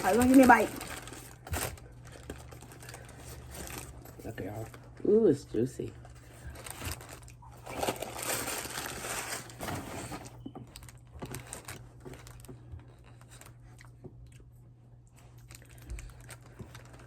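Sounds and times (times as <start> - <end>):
food wrapper crinkling: 0.0 - 5.0, 6.2 - 14.0, 15.2 - 17.0.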